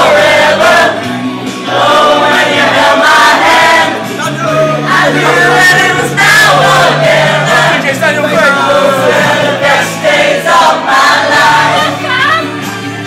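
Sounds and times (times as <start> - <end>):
group of people singing: 0.0 - 13.0
karaoke backing track: 0.0 - 13.0.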